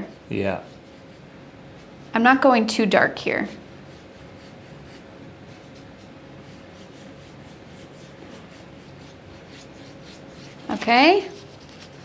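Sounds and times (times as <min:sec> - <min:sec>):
brush swishing on wet paper: 0:00.0 - 0:02.3, 0:03.4 - 0:12.0
low room hum: 0:00.0 - 0:12.0.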